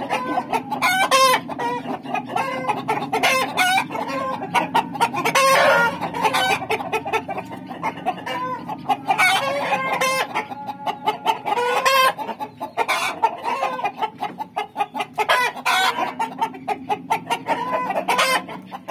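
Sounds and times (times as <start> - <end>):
chickens clucking: 0.0 - 18.9
loud high chicken calls: 0.0 - 18.9.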